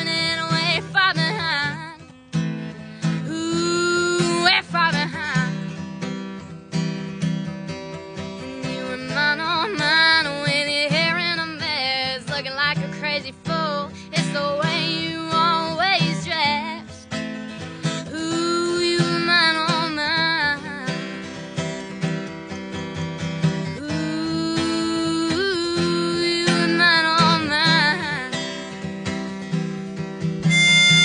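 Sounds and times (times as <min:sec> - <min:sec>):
woman singing: 0:00.0 - 0:02.2, 0:03.0 - 0:06.6, 0:08.1 - 0:22.0, 0:23.6 - 0:29.4
acoustic guitar: 0:00.0 - 0:31.0.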